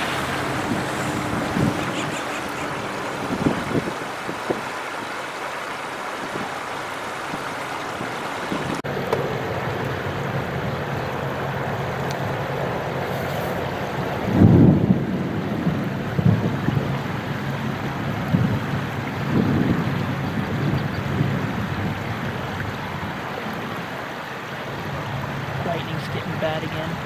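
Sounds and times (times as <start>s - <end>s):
wind buffeting microphone: 0.0s - 8.8s, 10.2s - 27.0s
floodwater rushing: 0.0s - 27.0s
vehicle engines humming: 0.0s - 27.0s.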